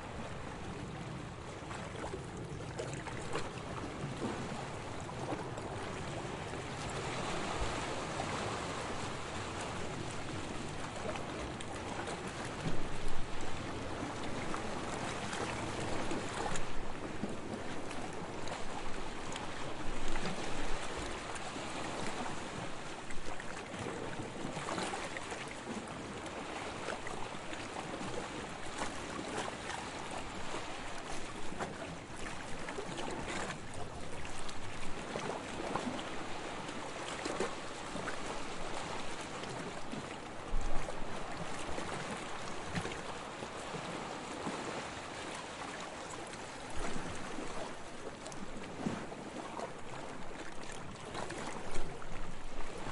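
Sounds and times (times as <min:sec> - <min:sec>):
waves lapping on shore: 0:00.0 - 0:52.9.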